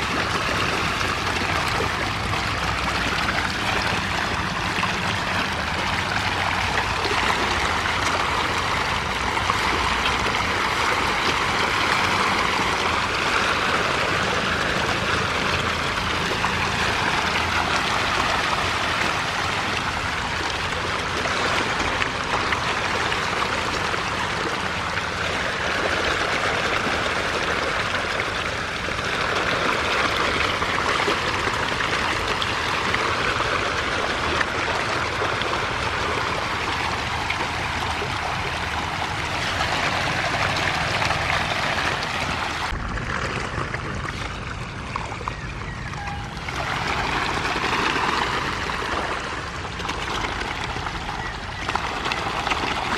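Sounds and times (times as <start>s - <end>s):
fish splashing at water surface: 0.0s - 52.9s.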